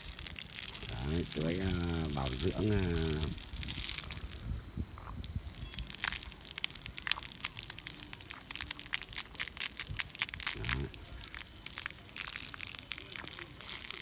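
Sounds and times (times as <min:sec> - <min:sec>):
water spattering on concrete: 0:00.0 - 0:04.4, 0:05.5 - 0:14.0
crackling patter of drying concrete: 0:00.0 - 0:14.0.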